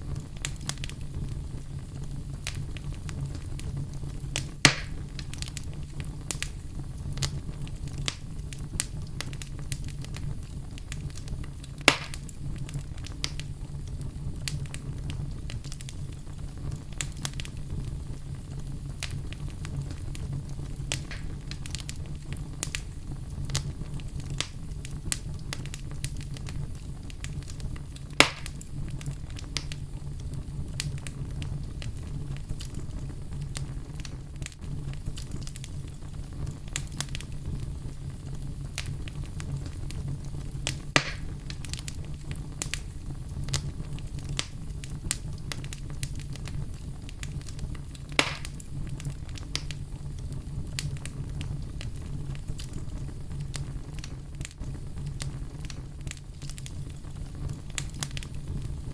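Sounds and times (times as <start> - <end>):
loud fire pops: 0.0 - 58.9
low rumble of flames: 0.0 - 58.9
wood fire crackling: 0.0 - 58.9.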